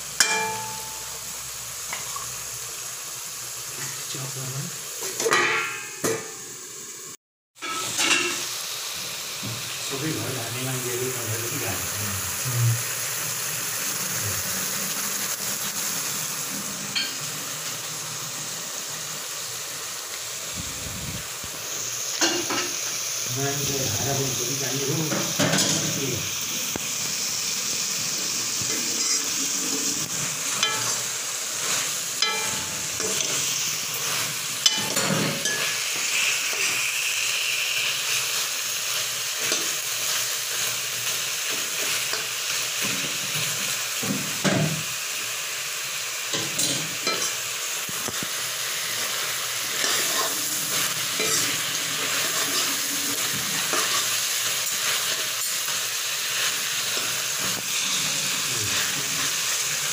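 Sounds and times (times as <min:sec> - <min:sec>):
chicken sizzling in a wok: 0:00.0 - 0:59.9.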